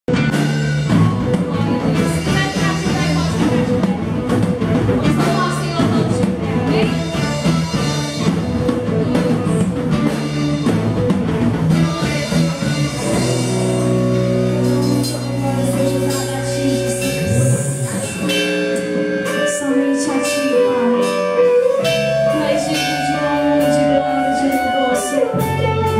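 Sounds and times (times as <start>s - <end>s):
band playing praise song: 0.1s - 25.9s
drum kit: 0.1s - 25.9s
guitar chords: 0.1s - 25.9s.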